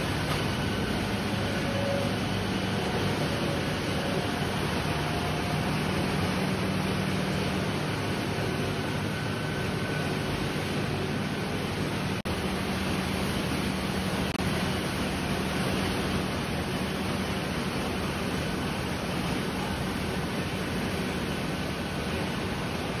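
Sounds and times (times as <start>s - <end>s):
constant low hum: 0.0s - 23.0s
factory machinery din: 0.0s - 23.0s.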